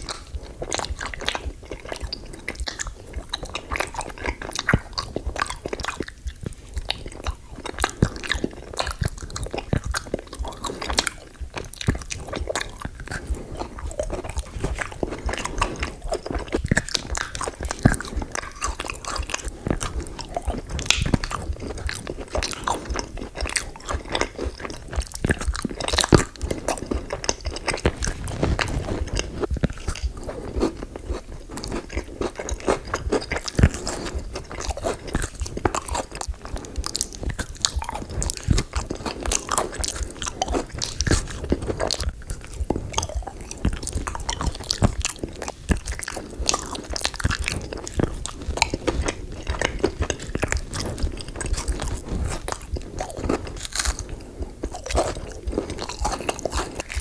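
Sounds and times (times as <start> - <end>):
person chewing crunchy food: 0.0 - 57.0
wet mouth clicks: 0.0 - 57.0.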